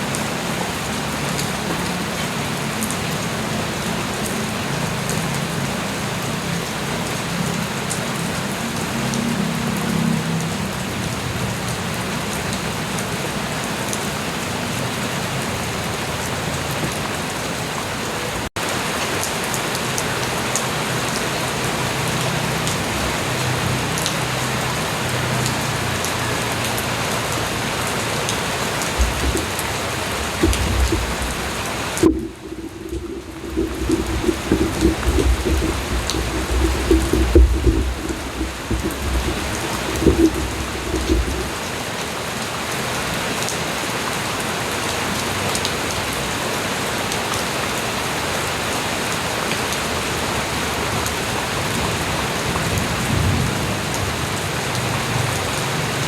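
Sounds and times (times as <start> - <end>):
light rain pattering on surfaces: 0.0 - 56.0.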